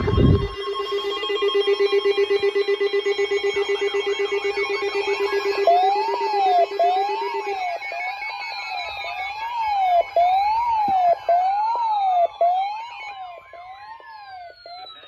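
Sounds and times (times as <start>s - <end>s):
rapidly pulsing electronic buzz: 0.0s - 12.7s
rising and falling siren sweep: 0.0s - 15.0s.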